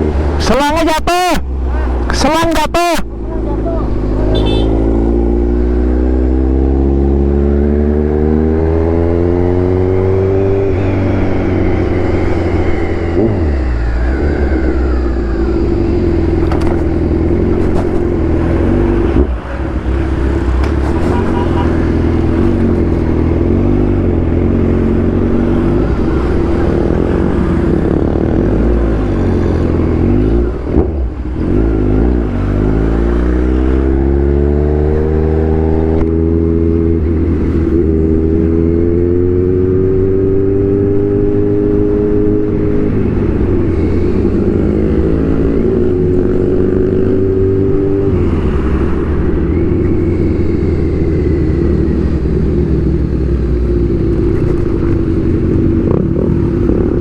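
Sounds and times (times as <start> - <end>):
motorcycle engine accelerating: 3.2 - 57.0.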